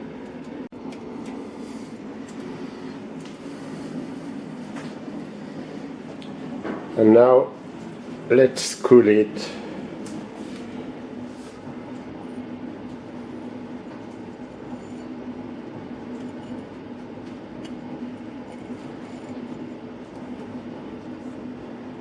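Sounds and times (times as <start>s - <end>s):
fan air noise: 0.0s - 22.0s
low mechanical hum: 0.0s - 22.0s.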